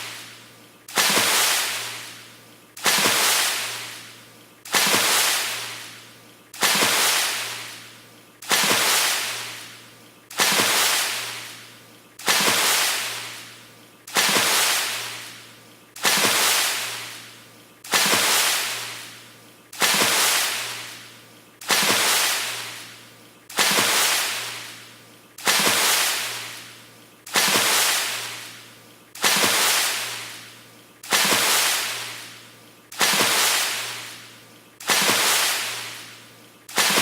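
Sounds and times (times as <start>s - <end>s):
water splash with hissing spray: 0.0s - 37.0s.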